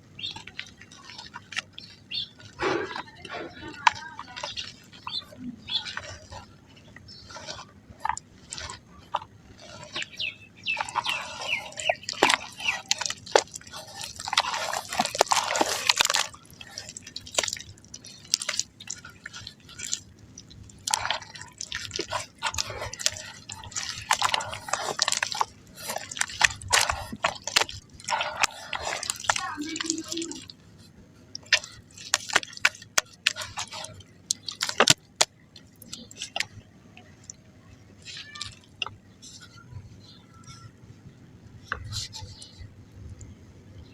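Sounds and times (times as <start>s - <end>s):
mud crumbling into water: 0.0s - 30.6s, 31.2s - 40.6s.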